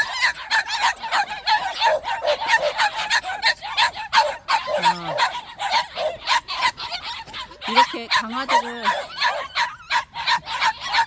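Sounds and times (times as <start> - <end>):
puppies barking: 0.0 - 11.0.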